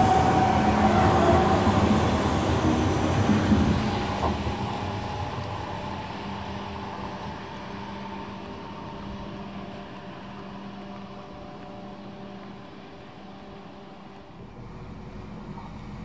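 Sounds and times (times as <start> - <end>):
electric train running noise: 0.0 - 16.0.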